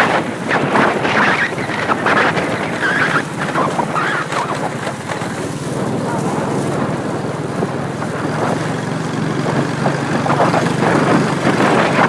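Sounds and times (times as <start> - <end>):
motorcycle engine running: 0.0 - 12.0
rushing wind noise: 0.0 - 12.0.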